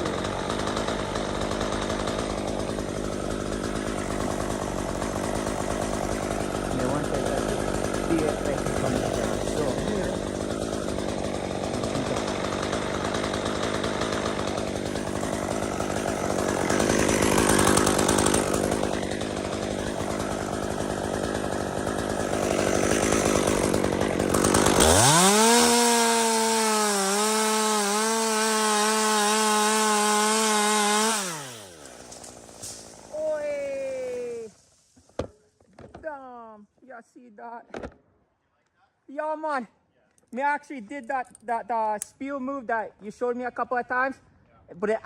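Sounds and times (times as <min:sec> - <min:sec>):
chainsaw cutting wood: 0:00.0 - 0:36.1.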